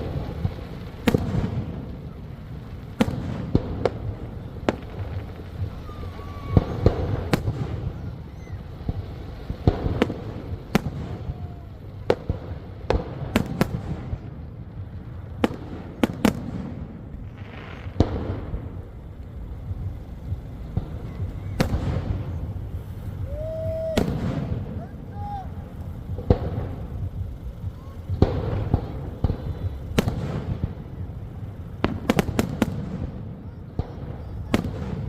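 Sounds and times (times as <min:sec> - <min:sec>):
fireworks exploding: 0:00.0 - 0:35.0
low rumble: 0:00.0 - 0:35.0.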